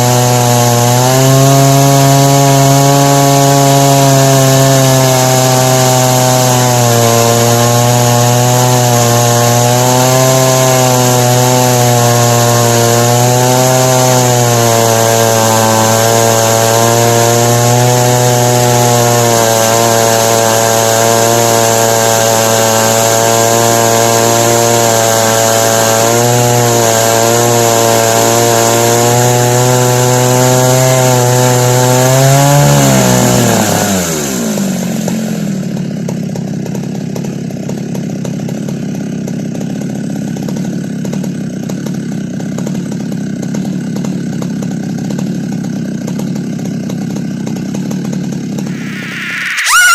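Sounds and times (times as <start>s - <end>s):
chainsaw cutting through log: 0.0s - 49.9s.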